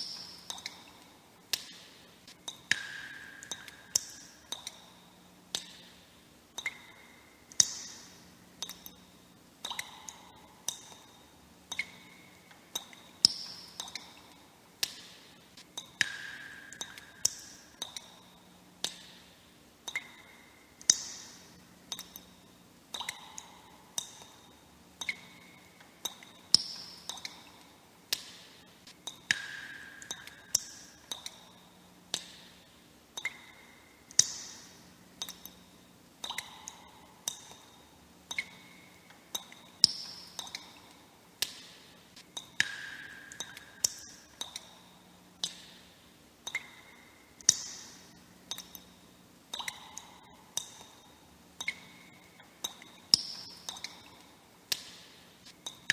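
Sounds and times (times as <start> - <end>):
water drops plinking into water: 0.0 - 1.9, 2.5 - 9.0, 9.6 - 19.2, 19.8 - 32.6, 33.2 - 35.6, 36.2 - 41.7, 42.4 - 44.8, 45.4 - 45.8, 46.4 - 48.9, 49.5 - 55.0.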